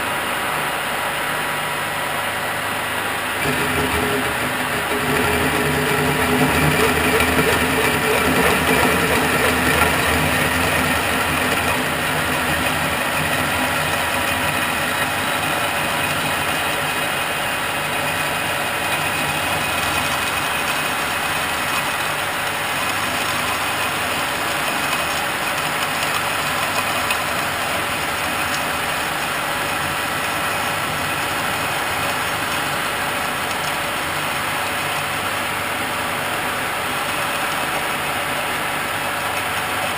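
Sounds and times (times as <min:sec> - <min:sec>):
metal lathe running: 0:03.0 - 0:35.5.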